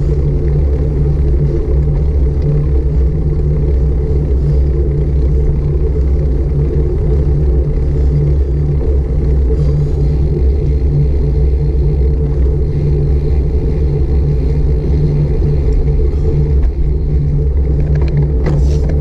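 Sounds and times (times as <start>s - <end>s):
road noise while cycling: 0.0s - 19.0s
wind buffeting microphone: 0.0s - 19.0s.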